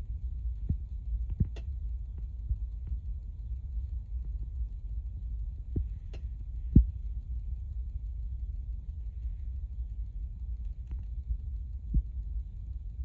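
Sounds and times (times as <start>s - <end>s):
low rumble on microphone: 0.0s - 13.0s.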